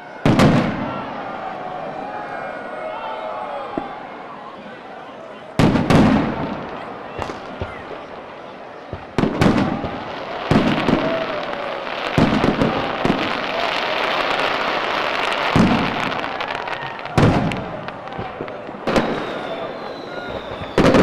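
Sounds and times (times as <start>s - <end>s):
fireworks crackling: 0.0s - 1.6s, 5.6s - 21.0s.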